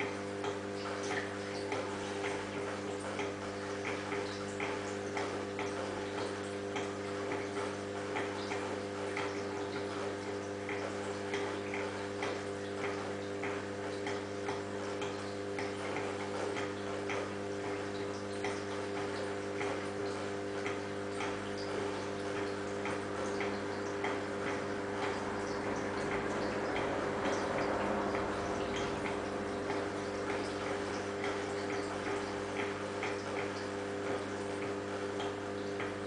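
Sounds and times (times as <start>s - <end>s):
aquarium equipment hum: 0.0s - 36.0s.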